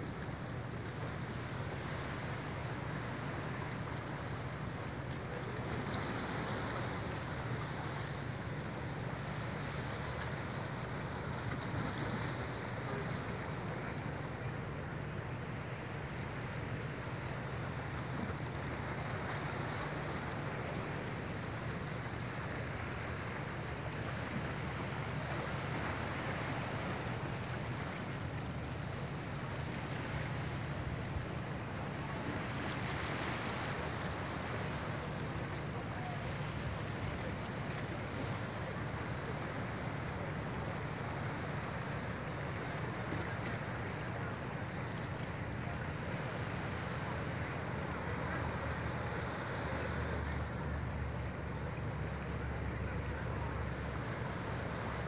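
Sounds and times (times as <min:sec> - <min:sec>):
soft hiss of calm sea: 0:00.0 - 0:55.0.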